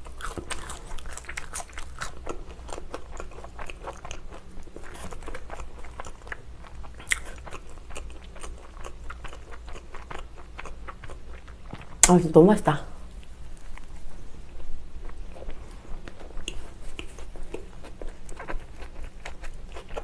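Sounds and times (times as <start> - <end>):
chewing food crunches: 0.0 - 12.1, 13.2 - 20.0.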